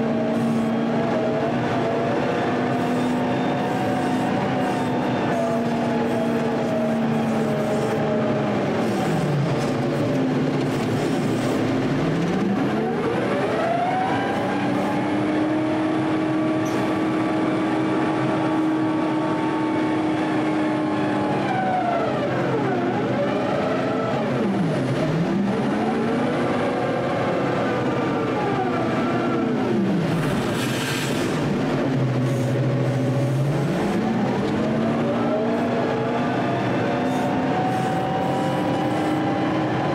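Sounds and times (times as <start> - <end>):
loader diesel engine revving: 0.0 - 39.9.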